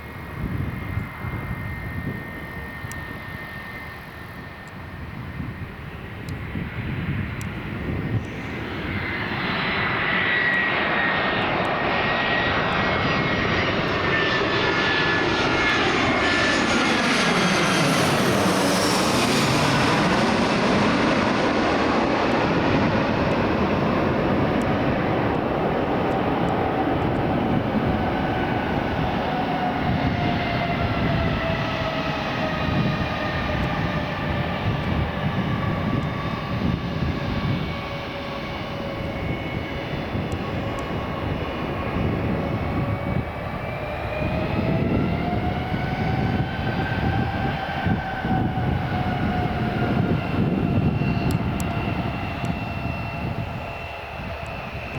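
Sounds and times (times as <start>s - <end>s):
airliner engine rumble and whine: 0.0s - 54.9s.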